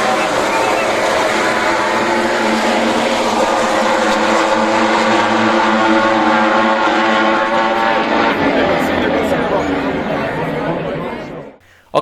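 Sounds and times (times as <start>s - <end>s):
motorcycle engines at high revs: 0.0s - 11.3s.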